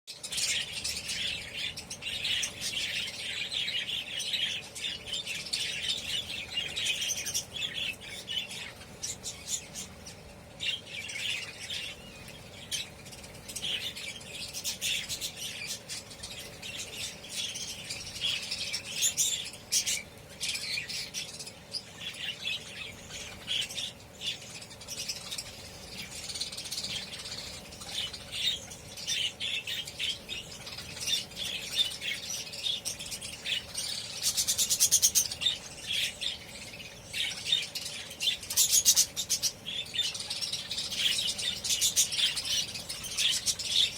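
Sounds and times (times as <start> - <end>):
budgerigars chirping and squawking: 0.2 - 43.9.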